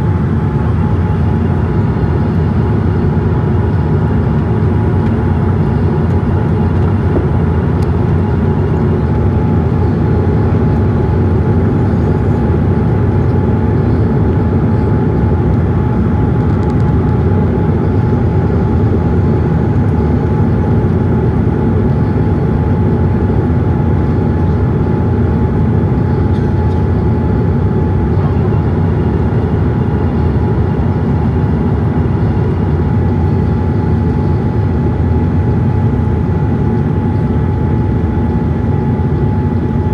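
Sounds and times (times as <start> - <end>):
airliner cabin engine rumble: 0.0 - 39.9
faint steady hum: 0.0 - 39.9.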